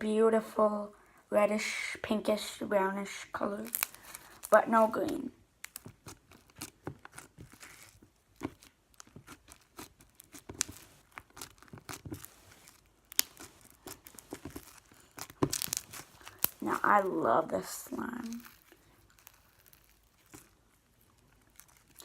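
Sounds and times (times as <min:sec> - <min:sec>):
beaded slime squeezed by hand: 0:03.6 - 0:17.0, 0:17.7 - 0:22.0.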